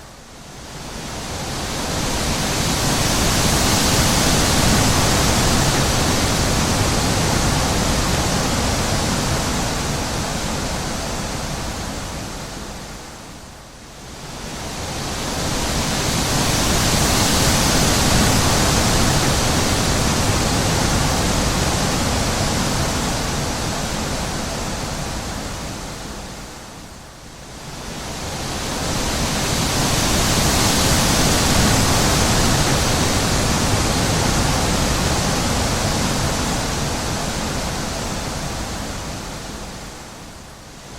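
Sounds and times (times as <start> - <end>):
wind blowing in gusts: 0.0 - 40.9.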